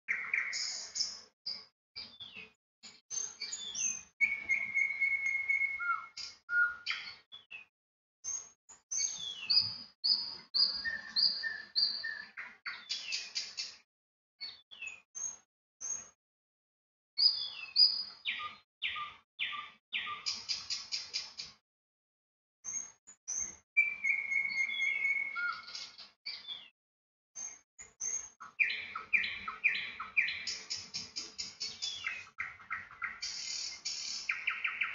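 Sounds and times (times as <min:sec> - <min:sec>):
songbirds chirping and singing: 0:00.1 - 0:13.8, 0:14.4 - 0:16.2, 0:17.2 - 0:21.6, 0:22.7 - 0:26.8, 0:27.4 - 0:34.9.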